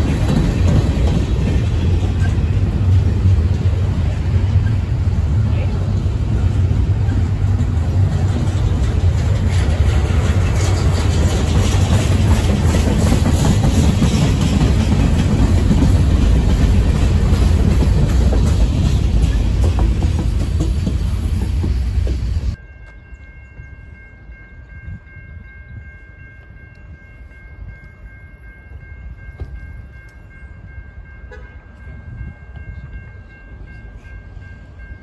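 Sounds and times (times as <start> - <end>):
freight train cars rumbling past: 0.0 - 35.0.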